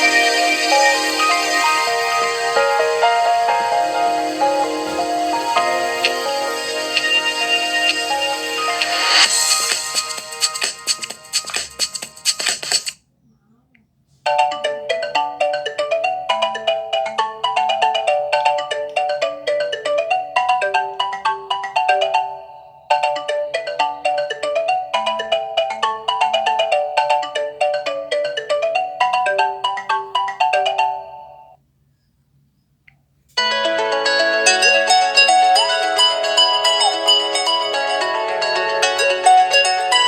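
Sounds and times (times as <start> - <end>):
phone ringtone melody: 0.0 - 12.1, 14.3 - 31.6, 33.4 - 40.0.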